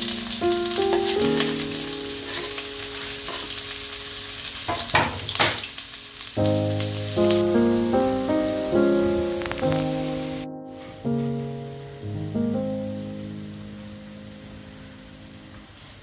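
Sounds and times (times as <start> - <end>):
background music with held notes: 0.0 - 4.5, 6.0 - 15.8
food sizzling in a pan: 0.0 - 11.6, 12.8 - 16.0.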